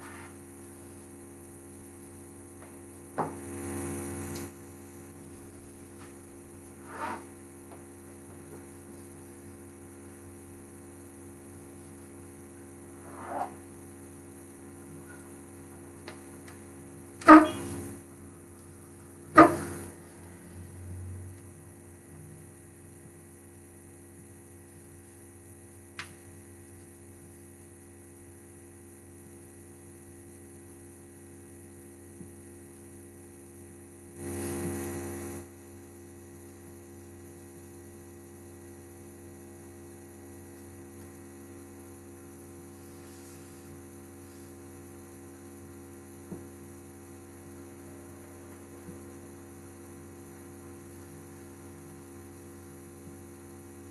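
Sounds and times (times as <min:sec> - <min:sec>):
electrical mains hum: 0:00.0 - 0:53.9.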